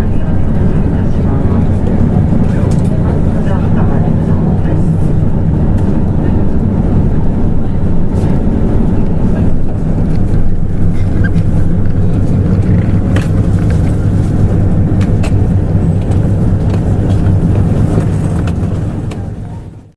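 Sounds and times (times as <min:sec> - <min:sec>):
bus engine drone: 0:00.0 - 0:19.9.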